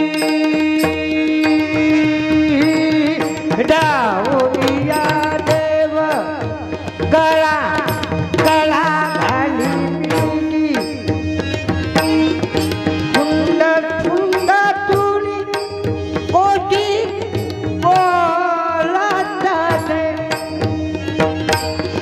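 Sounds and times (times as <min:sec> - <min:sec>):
tabla strokes: 0:00.0 - 0:22.0.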